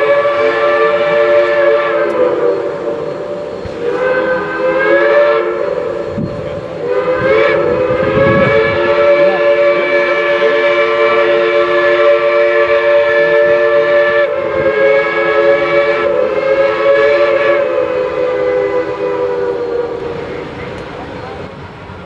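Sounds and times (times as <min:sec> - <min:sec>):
steam locomotive chime whistle: 0:00.0 - 0:21.6.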